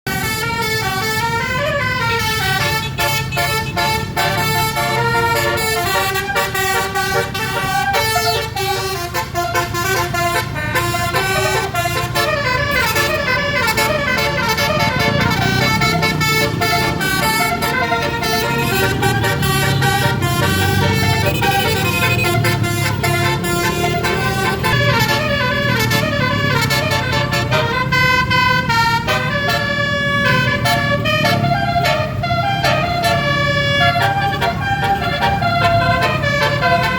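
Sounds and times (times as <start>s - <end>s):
bus engine running: 0.0s - 36.9s
bus horn playing a tune: 0.0s - 36.9s.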